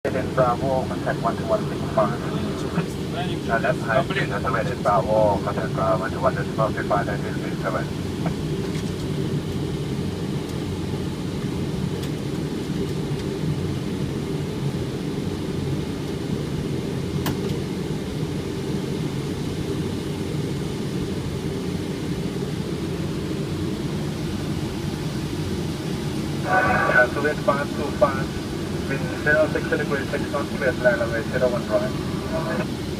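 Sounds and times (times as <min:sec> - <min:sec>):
airliner cockpit airflow and engine drone: 0:00.0 - 0:32.9.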